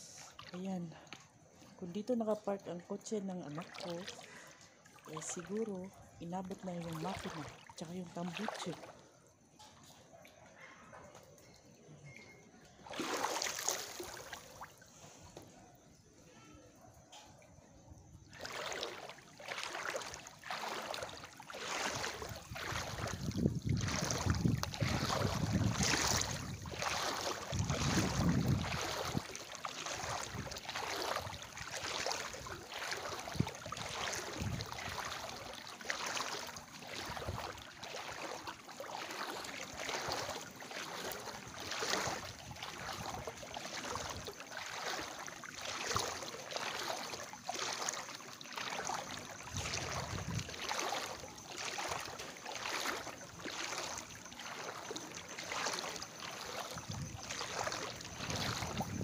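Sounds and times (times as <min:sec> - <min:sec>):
water sloshing with footsteps: 0:00.0 - 0:59.0.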